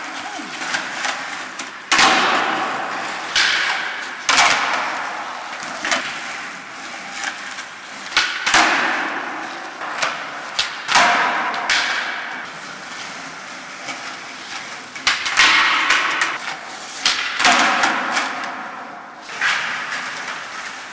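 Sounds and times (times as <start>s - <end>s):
skateboard cracks echoing: 0.0s - 20.9s
wheels rolling on concrete: 0.0s - 20.9s.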